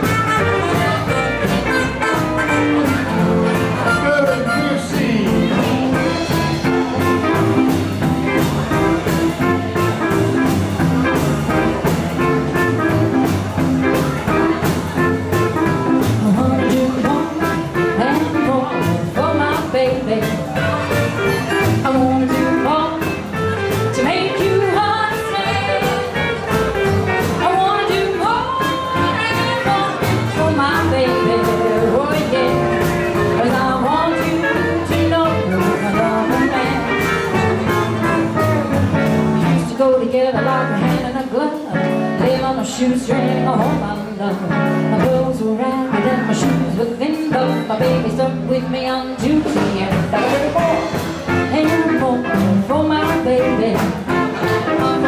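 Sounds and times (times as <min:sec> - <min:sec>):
person singing: 0:00.0 - 0:10.2, 0:14.0 - 0:55.0
acoustic guitar: 0:00.0 - 0:55.0
drum kit beat: 0:00.0 - 0:55.0
electric guitar: 0:00.0 - 0:55.0
upright bass: 0:00.0 - 0:55.0.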